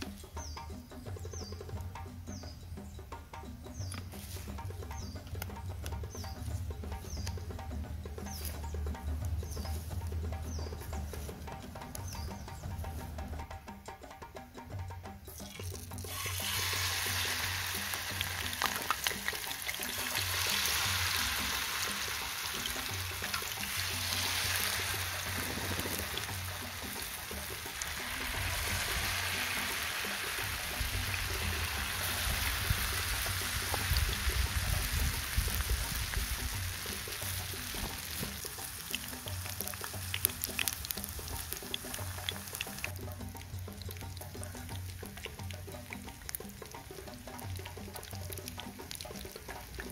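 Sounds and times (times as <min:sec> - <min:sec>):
background music with low beat: 0:00.0 - 0:49.9
battered food deep-frying in oil: 0:03.7 - 0:13.2, 0:15.2 - 0:49.9.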